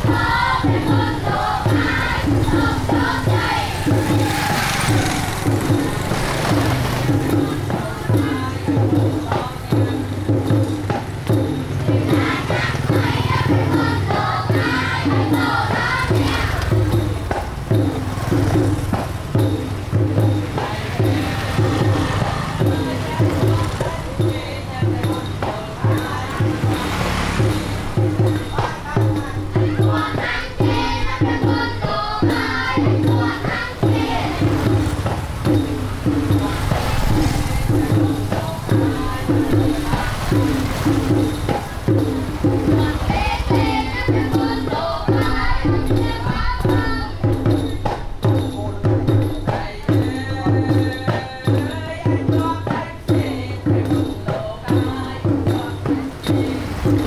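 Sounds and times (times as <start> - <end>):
children singing together: 0.0 - 48.0
jingling hand percussion: 0.0 - 57.0
low drum beat: 0.0 - 57.0.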